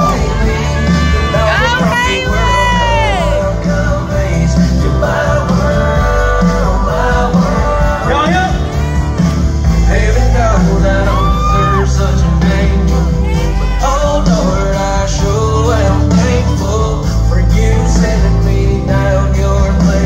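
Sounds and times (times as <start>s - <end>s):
backing track with bass: 0.0s - 20.0s
man singing vocal runs: 0.0s - 20.0s.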